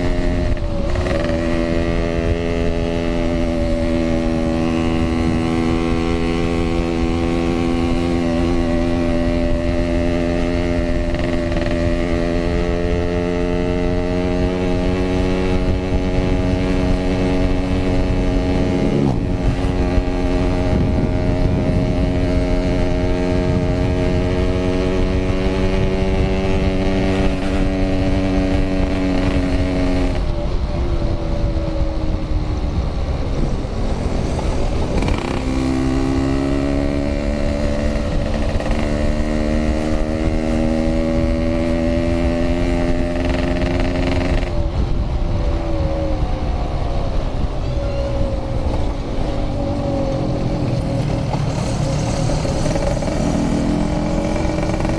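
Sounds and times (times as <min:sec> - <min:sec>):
two-stroke motorcycle engine running: 0:00.0 - 0:31.8, 0:32.6 - 0:46.6, 0:48.2 - 0:54.9
wind rumble on microphone: 0:00.0 - 0:54.9.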